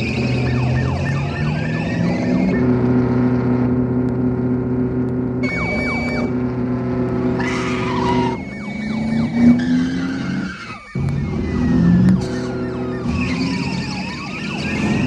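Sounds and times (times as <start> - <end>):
tyres skidding and squealing: 0.0 - 3.8, 5.4 - 15.0
car engines revving at high speed: 0.0 - 15.0.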